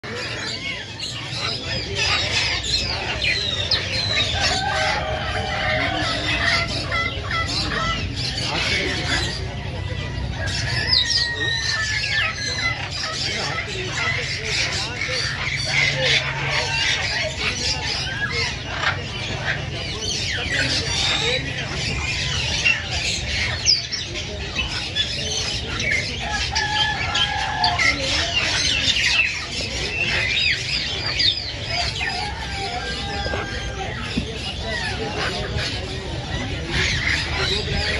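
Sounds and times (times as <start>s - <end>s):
caged birds chirping and calling: 0.0s - 37.9s.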